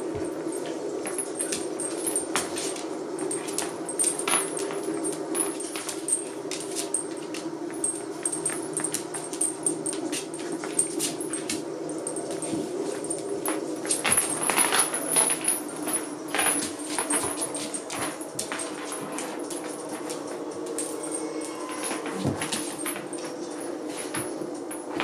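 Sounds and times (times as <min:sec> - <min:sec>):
metal chain collars clinking: 0:00.1 - 0:25.0.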